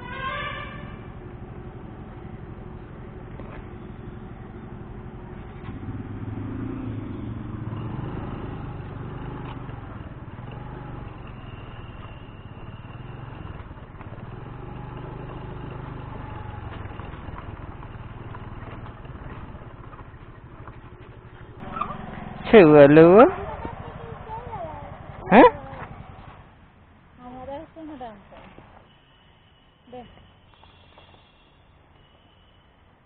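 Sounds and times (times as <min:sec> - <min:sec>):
vehicle engine running: 0:00.9 - 0:27.7.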